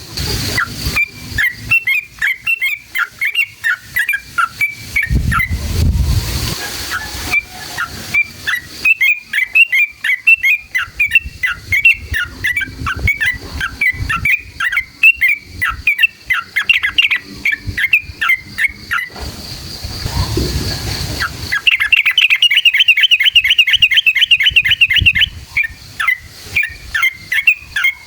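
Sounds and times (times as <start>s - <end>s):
bulbul chattering song: 0.0s - 5.7s, 6.6s - 28.0s.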